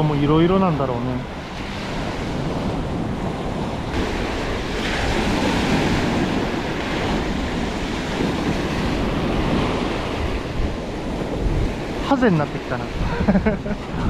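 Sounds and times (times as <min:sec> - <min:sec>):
surf washing onto beach: 0:00.0 - 0:14.0
wind rumbling on microphone: 0:00.0 - 0:14.0.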